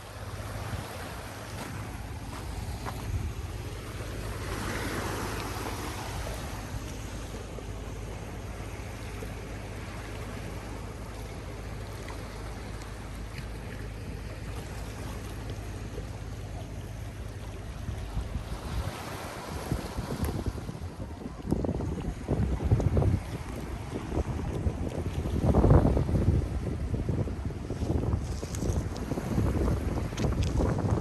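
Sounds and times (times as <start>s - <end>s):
sea waves washing onto beach: 0.0s - 31.0s
wind rumble on microphone: 0.0s - 31.0s.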